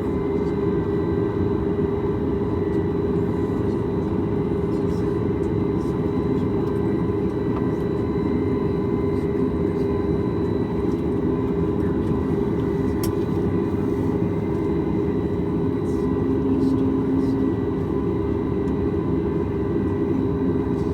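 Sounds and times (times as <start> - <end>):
airplane cabin engine drone: 0.0 - 20.9.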